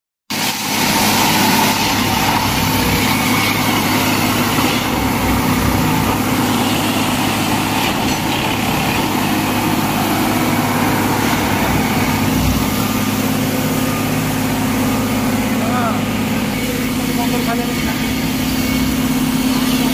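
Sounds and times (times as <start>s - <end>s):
tamping machine engine droning: 0.3s - 19.9s.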